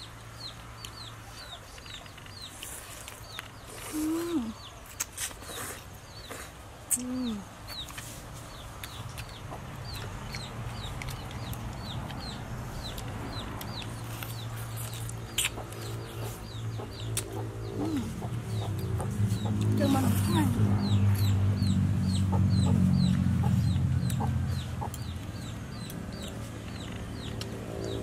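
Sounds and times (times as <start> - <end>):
chickens clucking and cheeping: 0.0 - 28.0.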